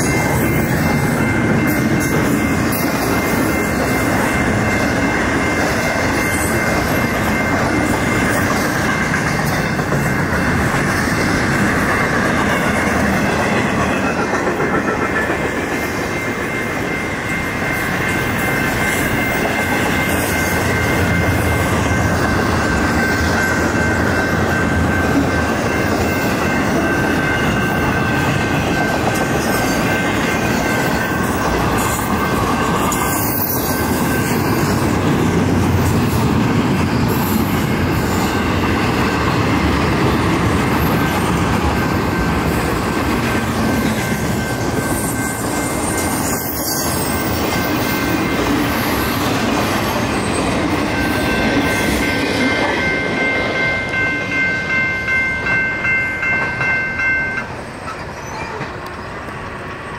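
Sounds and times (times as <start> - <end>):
crossing signal bell ringing: 0.0 - 59.1
freight train wheels rumbling: 0.0 - 59.9.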